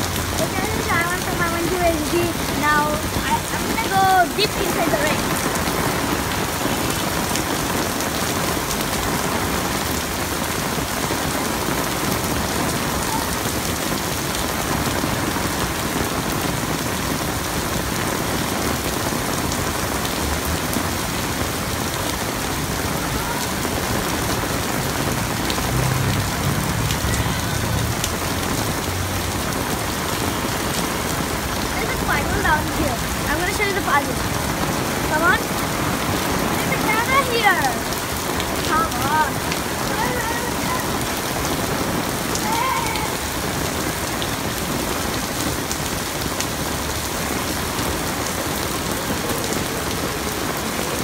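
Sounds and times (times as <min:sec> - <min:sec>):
rain on wet pavement: 0:00.0 - 0:51.0.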